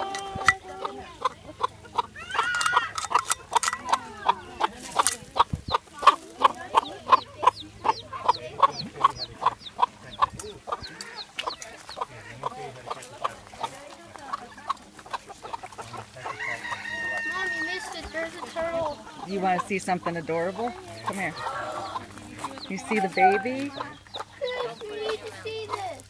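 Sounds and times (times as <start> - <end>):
chick peeping: 0.0 - 26.0
hen clucking: 0.0 - 26.0.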